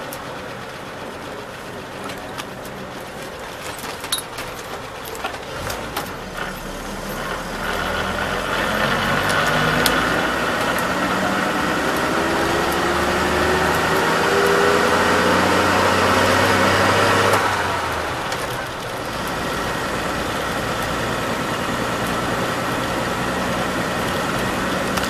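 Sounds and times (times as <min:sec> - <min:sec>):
bus engine pulling: 0:00.0 - 0:25.0.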